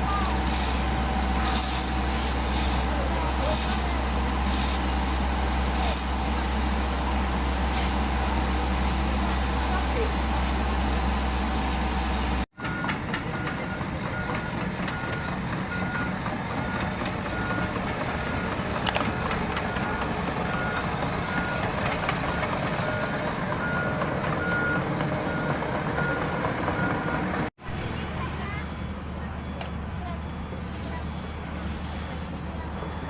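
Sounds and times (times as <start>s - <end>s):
reversing alarm beeping: 0.0s - 6.9s, 12.6s - 33.0s
diesel engine running: 0.0s - 33.0s.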